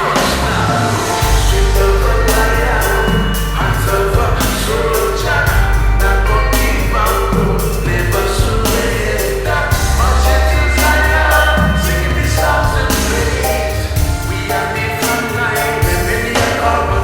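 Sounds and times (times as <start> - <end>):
gospel choir song over beat: 0.0 - 17.0.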